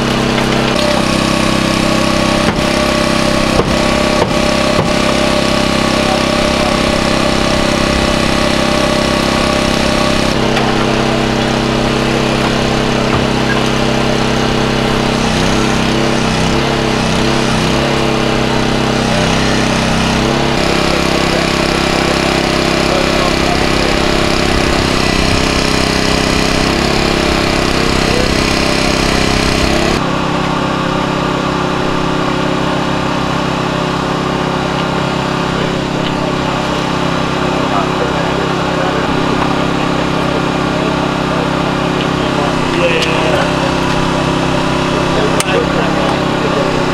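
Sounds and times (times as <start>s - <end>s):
small engine running steadily: 0.0s - 46.9s.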